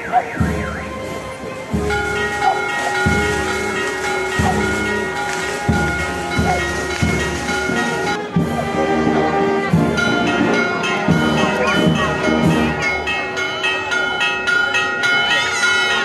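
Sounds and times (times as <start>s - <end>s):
held chords over low beat: 0.0s - 13.0s.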